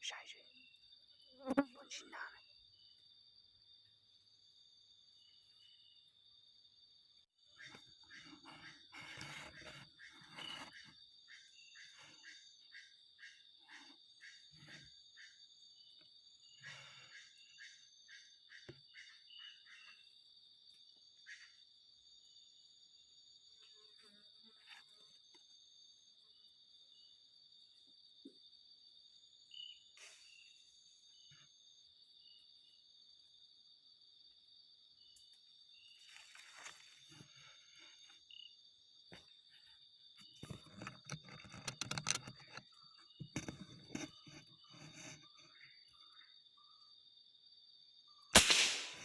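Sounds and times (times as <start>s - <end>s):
forest insects droning: 0.0s - 49.0s.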